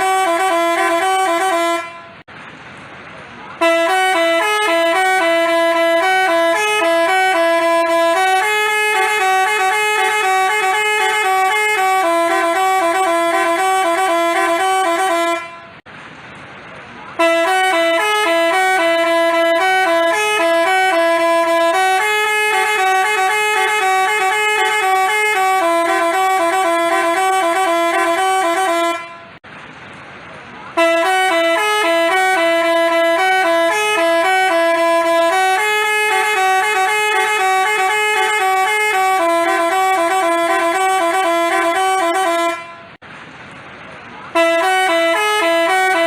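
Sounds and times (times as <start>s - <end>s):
musical horn playing melody: 0.0s - 2.2s, 3.6s - 15.8s, 17.2s - 29.4s, 30.8s - 43.0s, 44.3s - 46.0s.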